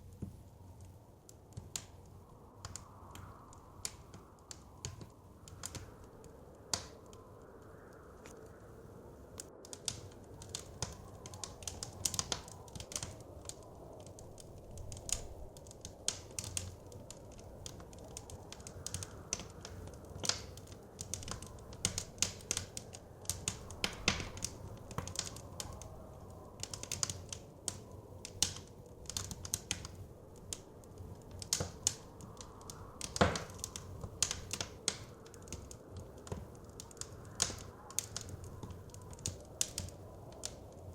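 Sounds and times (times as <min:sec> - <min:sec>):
low rush of wind and flame: 0:00.0 - 0:40.9
wood fire crackling and popping: 0:00.0 - 0:40.9.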